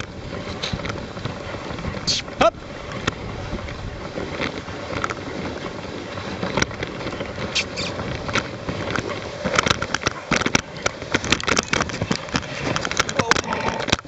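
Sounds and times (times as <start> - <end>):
sled clicks and knocks: 0.0 - 14.0
sled scraping over snow: 0.0 - 14.0.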